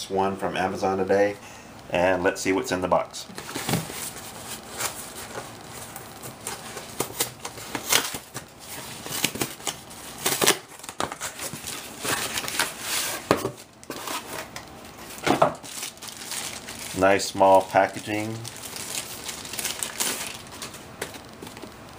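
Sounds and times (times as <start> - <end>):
paper packaging rustling: 3.3 - 21.9.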